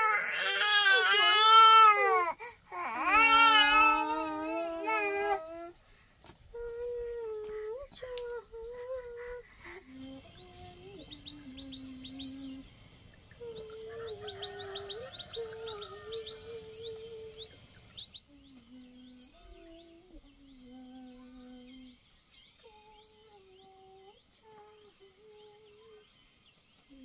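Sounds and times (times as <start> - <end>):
woman humming a slow tune: 0.0 - 5.9, 6.5 - 26.3
small birds chirping: 0.0 - 27.0.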